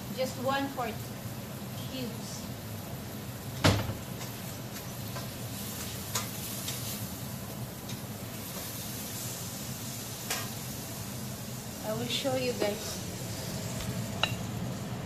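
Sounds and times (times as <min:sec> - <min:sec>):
beef sizzling in a pan: 0:00.0 - 0:15.0.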